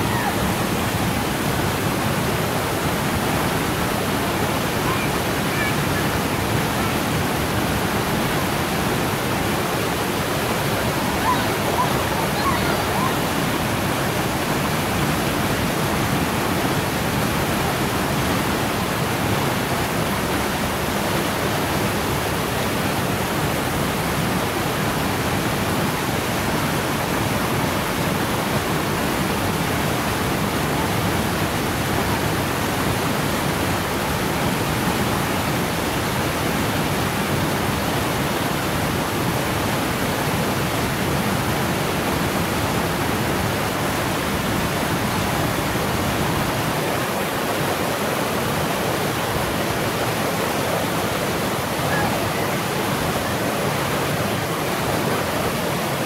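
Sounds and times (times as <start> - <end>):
waterfall rushing onto rock: 0.0 - 56.0.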